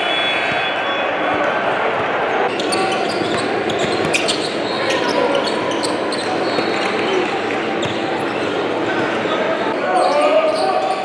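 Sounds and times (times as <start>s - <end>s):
crowd voices: 0.0s - 11.0s.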